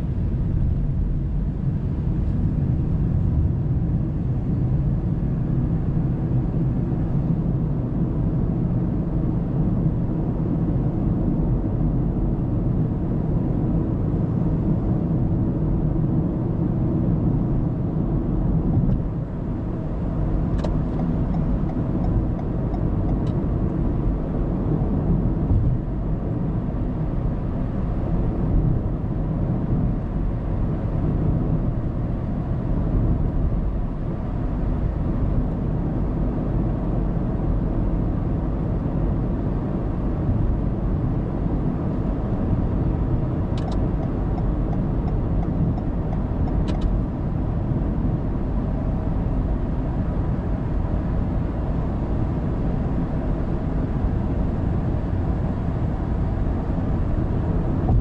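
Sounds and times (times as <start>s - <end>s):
tyres and engine hum: 0.0s - 58.0s.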